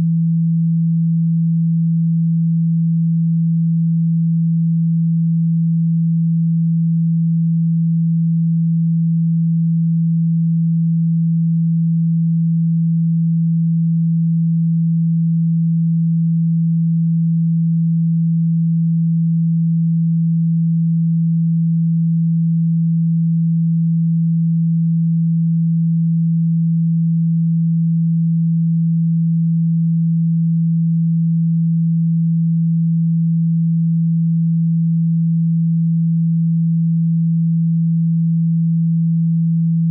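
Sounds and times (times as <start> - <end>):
steady low sine tone: 0.0 - 39.9.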